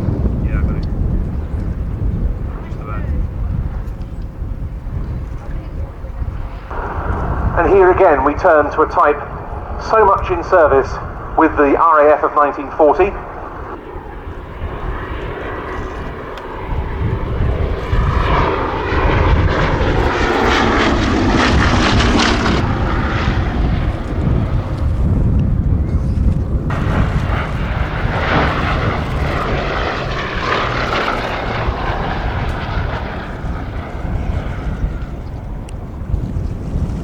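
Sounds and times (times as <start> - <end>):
propeller plane flying past: 0.0 - 37.0.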